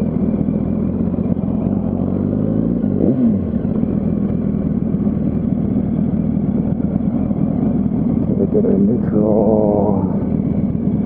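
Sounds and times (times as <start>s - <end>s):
motorcycle engine rev: 0.0s - 11.0s
motorcycle engine running: 0.0s - 11.0s.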